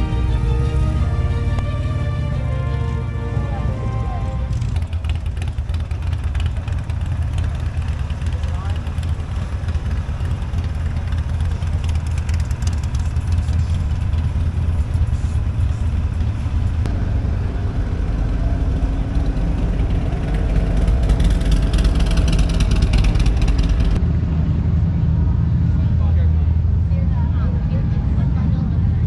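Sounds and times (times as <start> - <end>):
motorcycle engines rumbling: 0.0 - 29.0.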